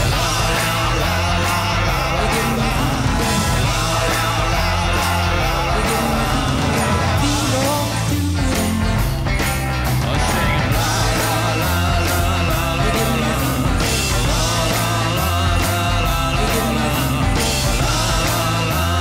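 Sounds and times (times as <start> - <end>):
rock song with drum beat: 0.0 - 19.0.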